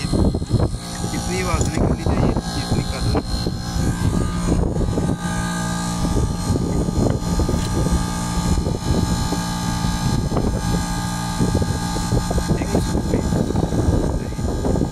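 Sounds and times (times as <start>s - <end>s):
air conditioner unit humming: 0.0s - 14.9s.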